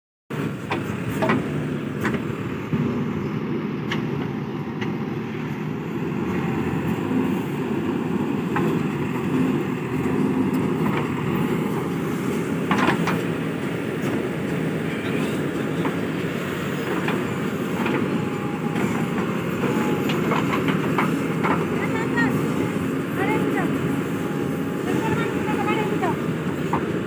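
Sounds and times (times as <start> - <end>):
diesel engine running: 0.3 - 27.0.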